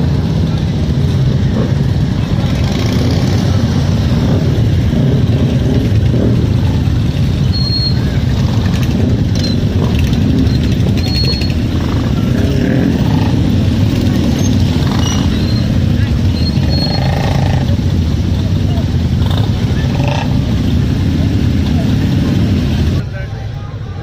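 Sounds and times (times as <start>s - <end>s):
crowd chatter: 0.0s - 24.0s
motorcycle engines droning: 0.0s - 24.0s.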